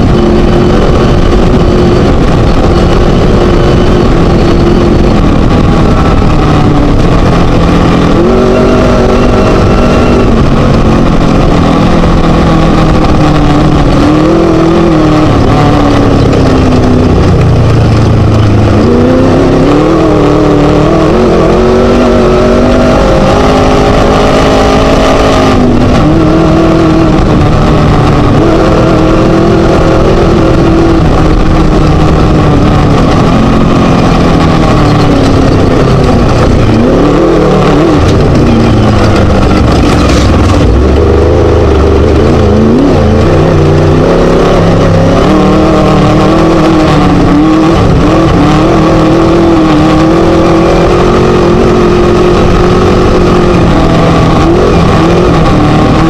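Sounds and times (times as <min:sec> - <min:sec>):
race buggy engine revving: 0:00.0 - 0:56.0
rough noise of car at speed: 0:00.0 - 0:56.0.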